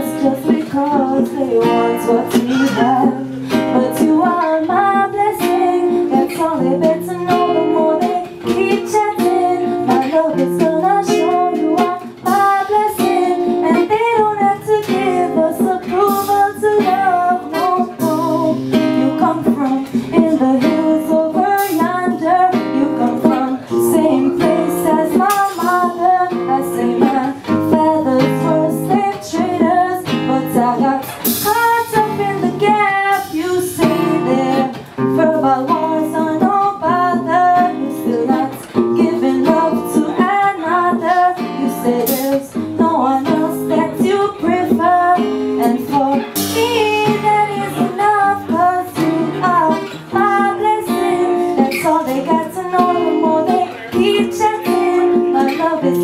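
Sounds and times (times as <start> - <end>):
drum kit: 0.0 - 56.0
strummed acoustic guitar: 0.0 - 56.0
woman singing into microphone: 0.0 - 56.0.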